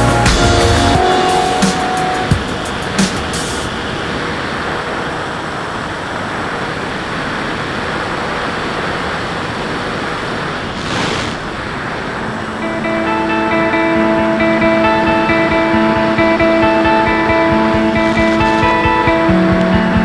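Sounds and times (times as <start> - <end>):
wind rushing over microphone: 2.2 - 20.0.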